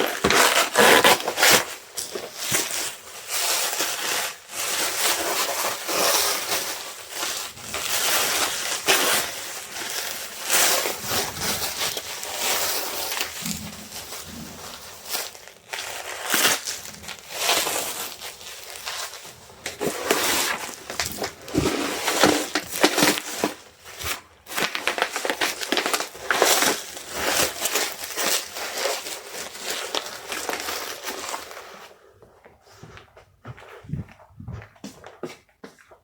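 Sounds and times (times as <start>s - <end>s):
packing material crumpling: 0.0s - 31.9s.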